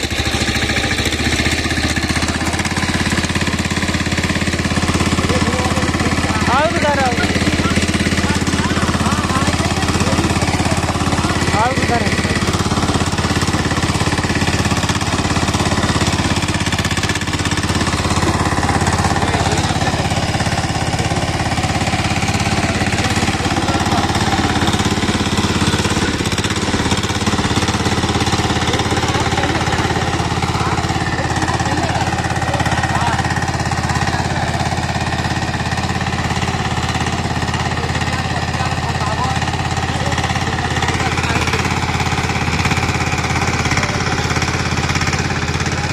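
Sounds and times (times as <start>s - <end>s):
diesel engine knocking under load: 0.0s - 45.9s
tines churning dry soil: 0.0s - 45.9s.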